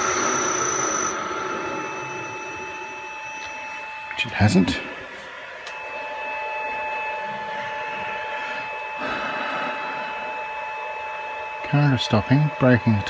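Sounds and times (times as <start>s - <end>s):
electric motor whine and hum: 0.0s - 13.0s.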